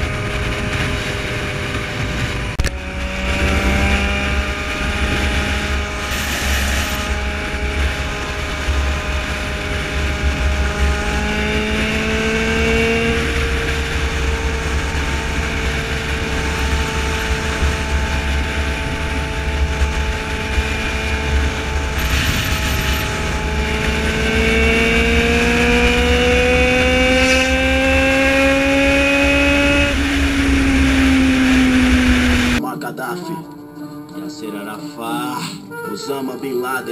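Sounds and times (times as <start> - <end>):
motorcycle engine at speed: 0.0 - 32.6
wind noise on microphone: 0.0 - 32.6.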